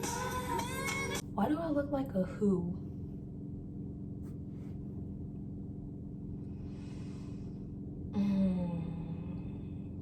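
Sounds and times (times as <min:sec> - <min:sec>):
steady low hum with tones: 0:00.0 - 0:10.0.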